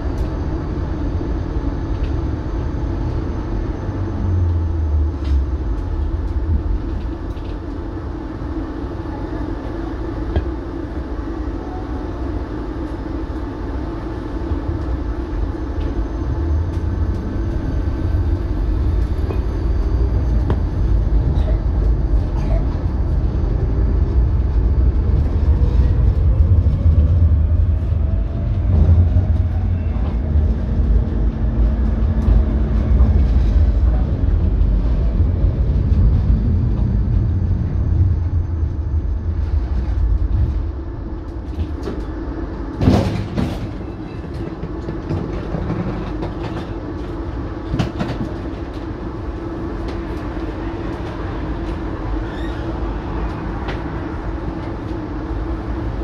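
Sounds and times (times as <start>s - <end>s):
tram rumbling on track: 0.0s - 56.0s.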